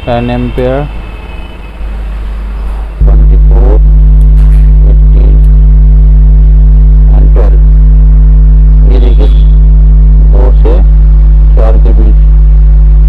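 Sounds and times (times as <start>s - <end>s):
transformer humming: 0.0s - 13.0s.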